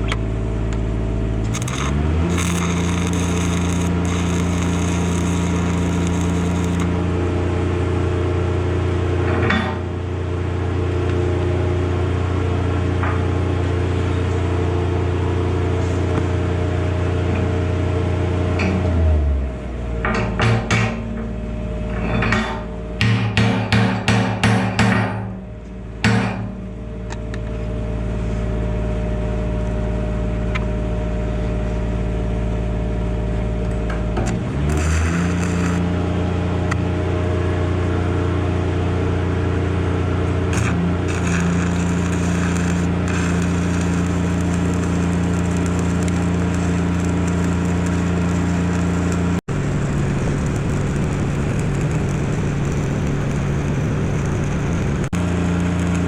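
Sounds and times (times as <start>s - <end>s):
engine running: 0.0s - 20.2s, 26.7s - 56.0s.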